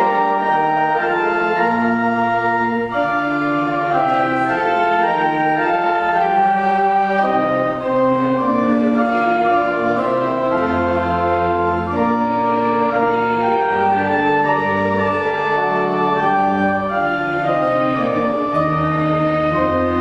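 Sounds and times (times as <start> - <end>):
church organ playing hymn: 0.0 - 20.0.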